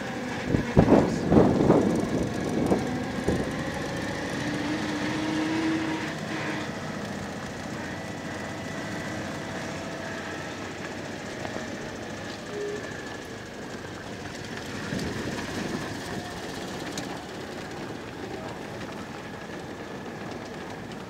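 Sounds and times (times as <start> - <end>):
car rolling over dirt ground: 0.4 - 21.0.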